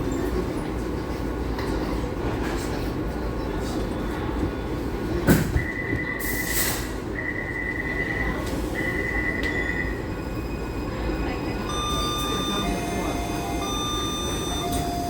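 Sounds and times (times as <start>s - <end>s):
metro train rumbling: 0.0s - 15.0s.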